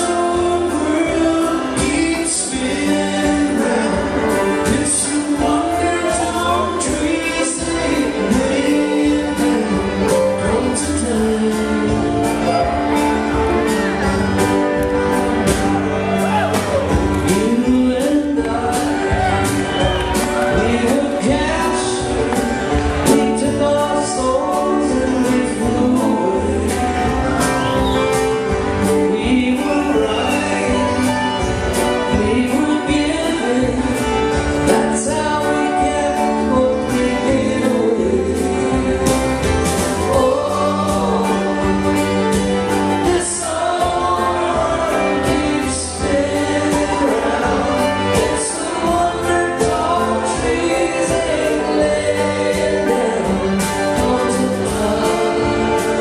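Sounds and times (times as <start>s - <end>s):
man singing with harmony vocals: 0.0s - 13.4s, 15.9s - 56.0s
live country-folk band: 0.0s - 56.0s.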